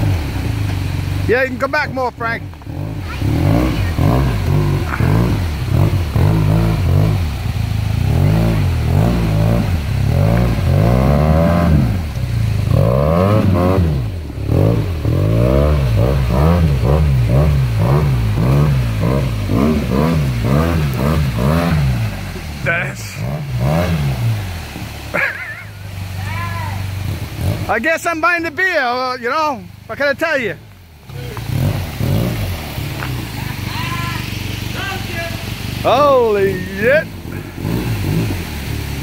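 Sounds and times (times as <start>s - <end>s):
atv engine revving: 0.0s - 39.0s.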